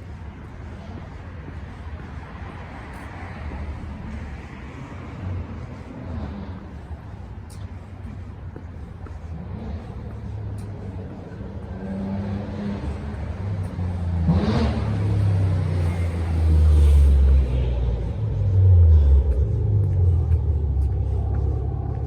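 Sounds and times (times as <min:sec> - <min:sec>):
car engine approaching: 0:00.0 - 0:22.0.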